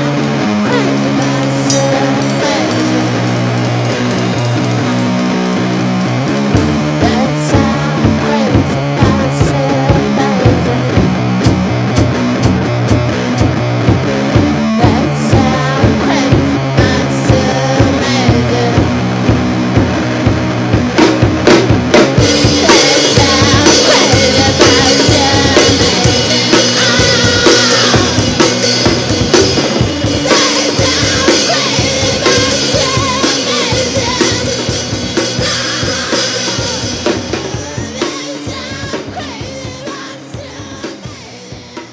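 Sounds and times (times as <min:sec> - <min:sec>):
band song playing: 0:00.0 - 0:41.9
drum kit pounding fast beat: 0:00.0 - 0:41.9.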